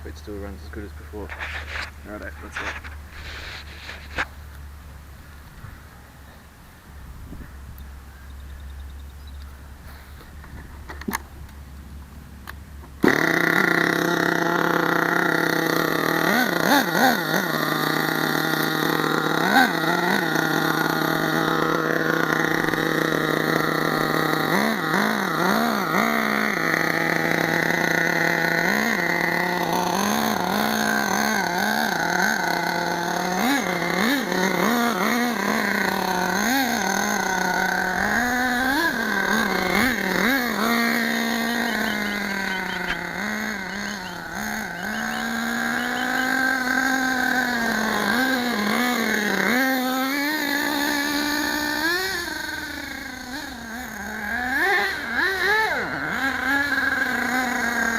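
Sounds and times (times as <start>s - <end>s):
small nitro engine buzzing: 0.0s - 11.5s, 12.9s - 57.9s.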